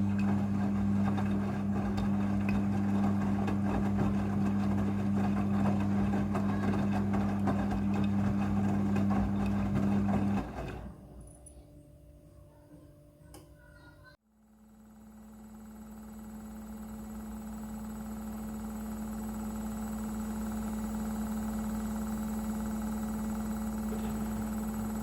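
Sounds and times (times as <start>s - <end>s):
washing machine hum: 0.0s - 11.5s, 14.5s - 25.0s.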